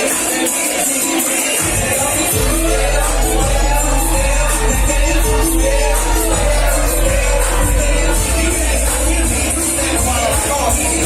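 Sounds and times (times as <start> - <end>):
loud dance music: 0.0 - 11.0
deep bass line: 1.7 - 11.0.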